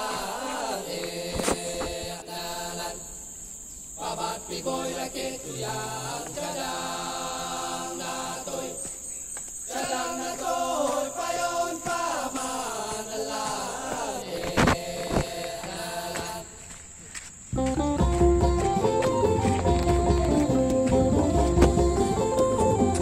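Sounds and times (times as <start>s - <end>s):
choir-like chanting music: 0.0s - 16.9s, 17.6s - 23.0s
high insect drone: 0.0s - 23.0s.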